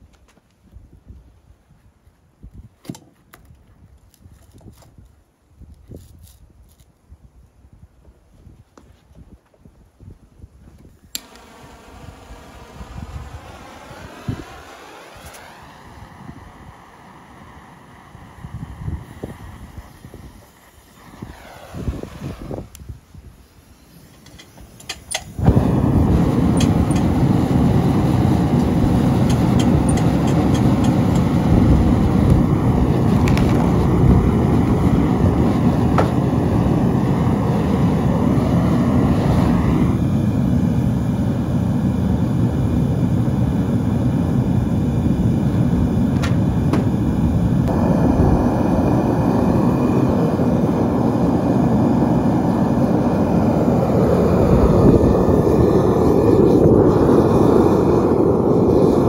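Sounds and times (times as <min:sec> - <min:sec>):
gas burner flame rushing: 0:10.9 - 0:59.0.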